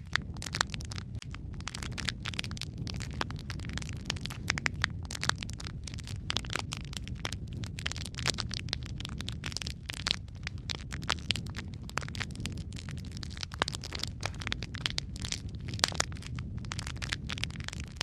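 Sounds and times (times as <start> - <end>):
low rumble of burning: 0.0 - 18.0
wood fire popping: 0.0 - 18.0.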